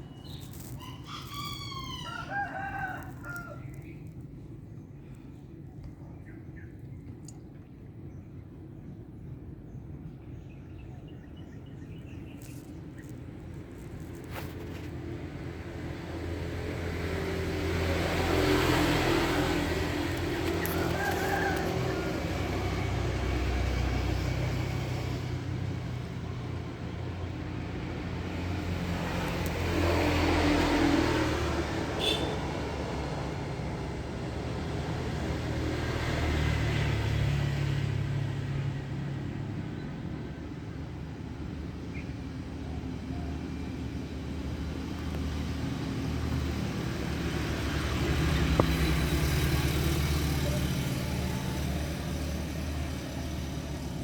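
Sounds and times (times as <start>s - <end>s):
vehicles passing: 0.0s - 8.6s, 9.4s - 54.0s
low engine hum: 0.0s - 54.0s.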